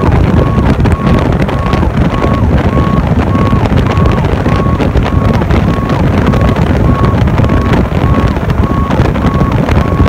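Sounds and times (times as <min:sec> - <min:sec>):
fire truck engine and road rumble: 0:00.0 - 0:10.0
wind buffeting microphone: 0:00.0 - 0:10.0
short level beeps: 0:00.4 - 0:10.0.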